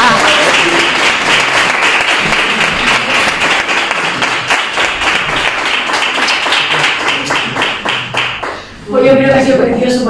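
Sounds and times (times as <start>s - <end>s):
crowd applauding: 0.0s - 8.7s.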